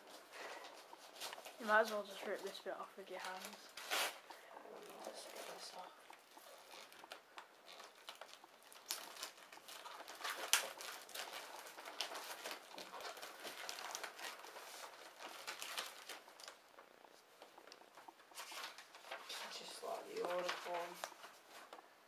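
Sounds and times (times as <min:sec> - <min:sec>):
paper and plastic crinkling: 0:00.1 - 0:21.8.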